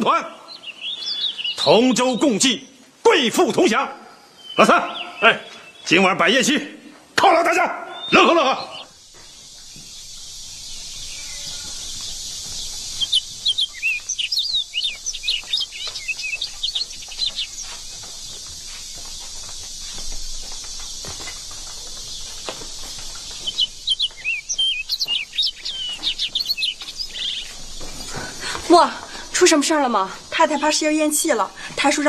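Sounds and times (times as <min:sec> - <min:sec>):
outdoor ambient hiss: 0:00.0 - 0:32.0
small songbirds chirping: 0:00.0 - 0:32.0.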